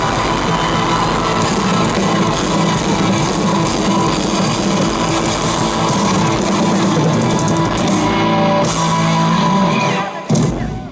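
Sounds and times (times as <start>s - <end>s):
live rock band playing: 0.0s - 10.9s.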